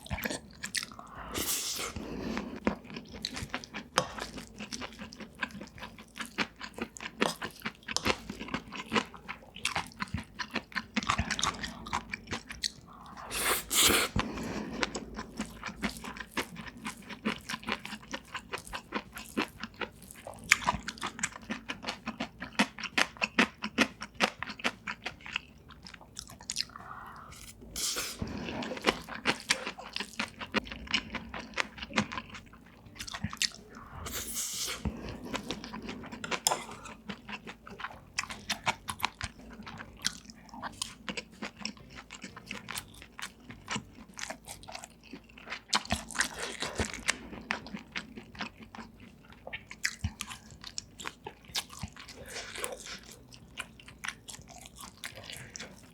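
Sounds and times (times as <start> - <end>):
crunchy food chewing: 0.0 - 55.9.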